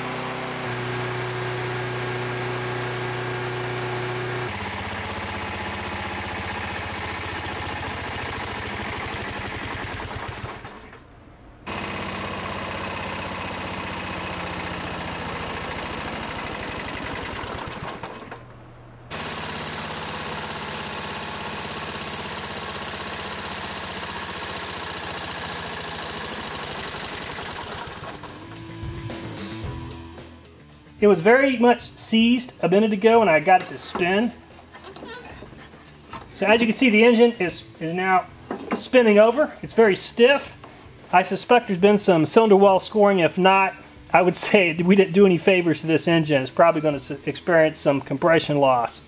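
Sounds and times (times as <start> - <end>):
lawn mower engine clattering: 0.1 - 11.1, 11.7 - 28.7, 32.7 - 45.6.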